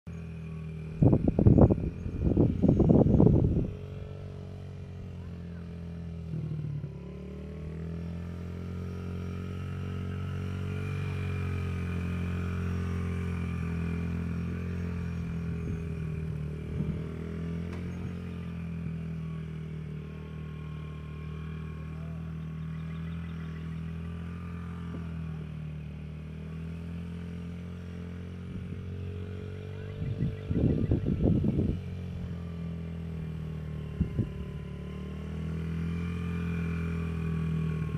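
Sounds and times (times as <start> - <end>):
dirt bike engine running: 0.1 - 37.9.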